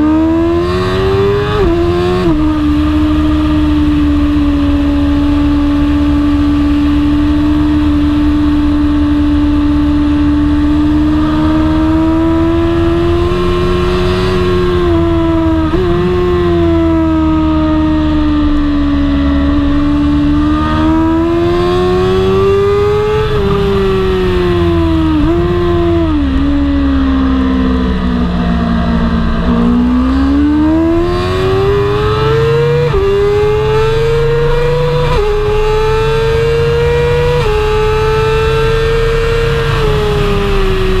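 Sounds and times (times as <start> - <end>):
motorcycle engine shifting gears: 0.0 - 41.0.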